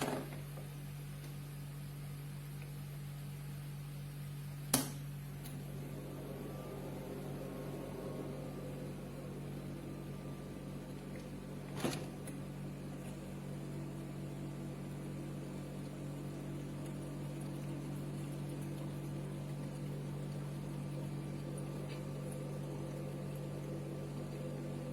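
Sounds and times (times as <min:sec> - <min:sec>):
ice maker humming: 0:00.0 - 0:24.9.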